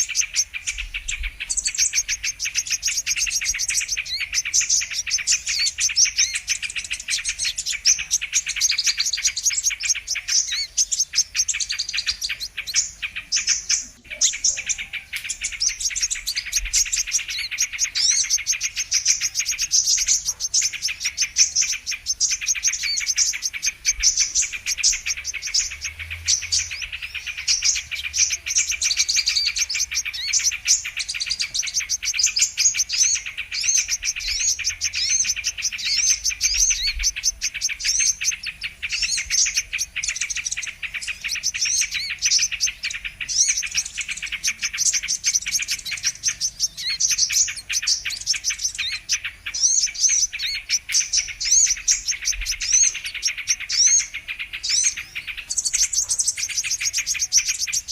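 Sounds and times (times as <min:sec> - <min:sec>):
sunbirds chirping and twittering: 0:00.0 - 0:57.9.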